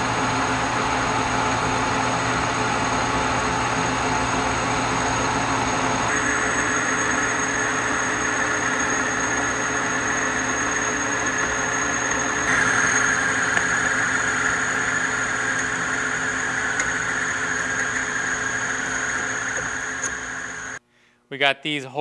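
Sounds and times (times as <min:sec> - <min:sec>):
high cutting whine: 0:00.0 - 0:20.8
metal lathe humming: 0:00.0 - 0:20.8.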